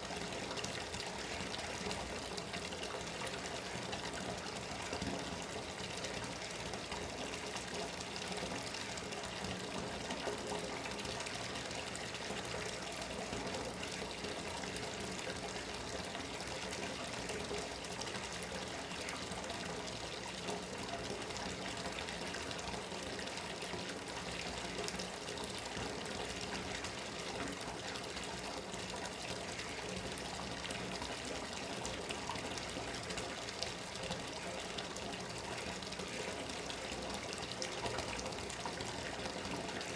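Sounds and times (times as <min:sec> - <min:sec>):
tap water pouring into tub: 0:00.0 - 0:39.9.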